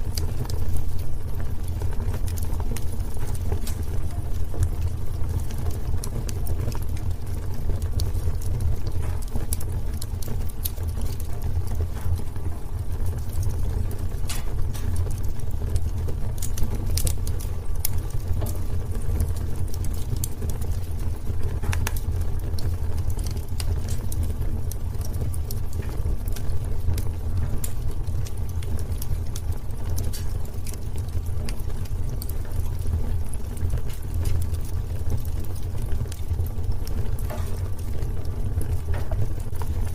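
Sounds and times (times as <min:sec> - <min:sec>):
burning wood crackling and popping: 0:00.0 - 0:39.9
fire flames rumbling: 0:00.0 - 0:39.9.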